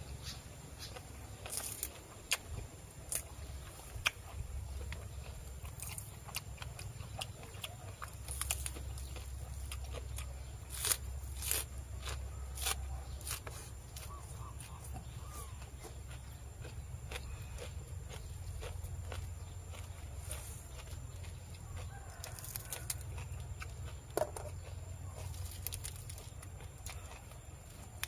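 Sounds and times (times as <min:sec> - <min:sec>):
chewing crunchy food: 0:00.1 - 0:28.0.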